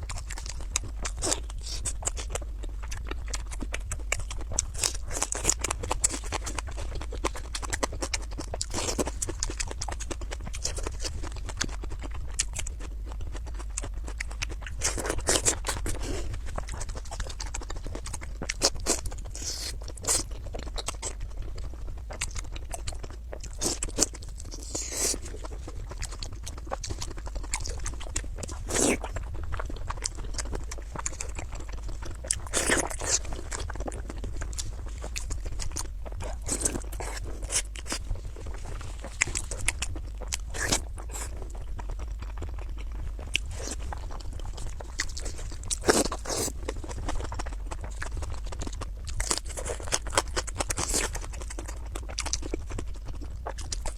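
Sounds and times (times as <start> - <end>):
person chewing crunchy food: 0.0 - 53.9
steady low hum: 0.0 - 53.9.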